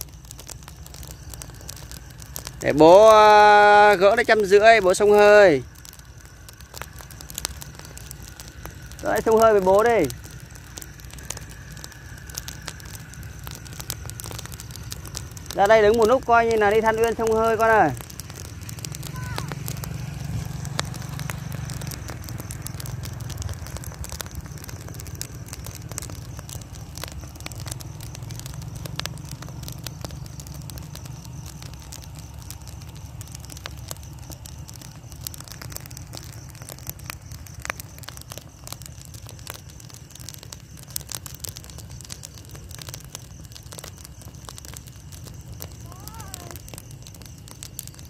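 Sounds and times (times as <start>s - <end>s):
steady low rumble: 0.0s - 47.8s
straw fire crackling and popping: 0.0s - 48.0s.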